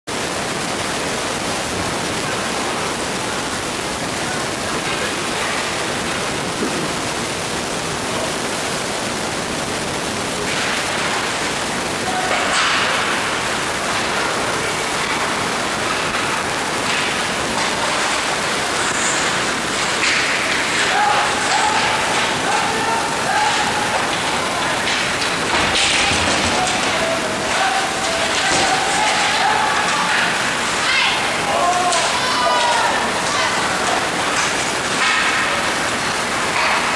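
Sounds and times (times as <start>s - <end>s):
ice rink ambience: 0.1s - 36.9s.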